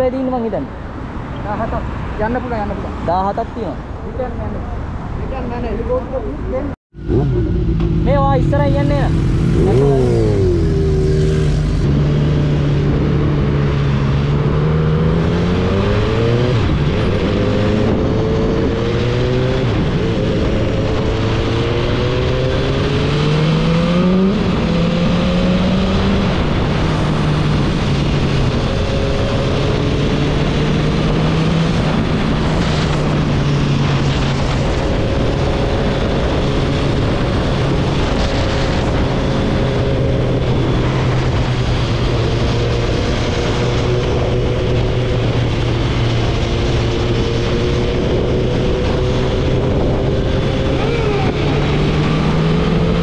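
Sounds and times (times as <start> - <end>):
wind rush: 0.0 - 53.0
motorcycle engine accelerating: 6.9 - 53.0.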